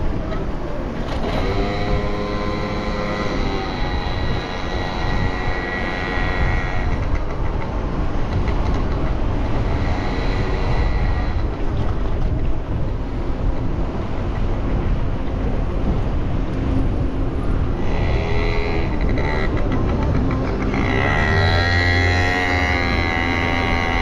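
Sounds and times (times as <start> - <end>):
engine hum: 0.0 - 24.0
road noise: 0.0 - 24.0
wind rumble on microphone: 0.0 - 24.0.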